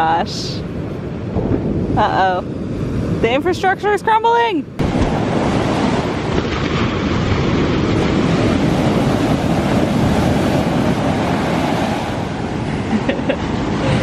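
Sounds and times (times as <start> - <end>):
surf rushing on beach: 0.0 - 14.0
wind buffeting microphone: 0.0 - 14.0.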